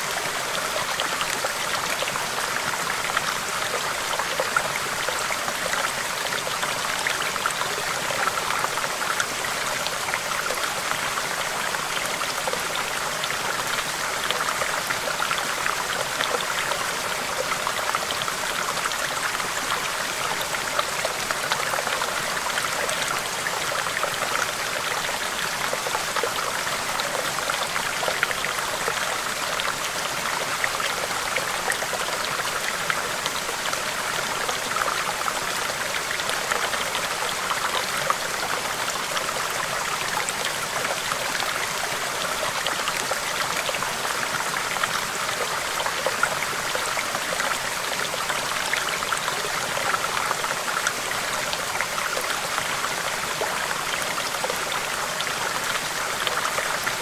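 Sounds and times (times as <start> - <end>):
stream babbling over rocks: 0.0 - 57.0.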